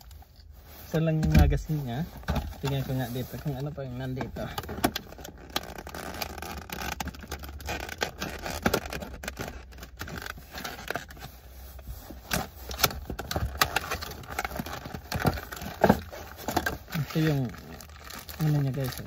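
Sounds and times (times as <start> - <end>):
plastic packaging being handled: 0.0 - 19.0.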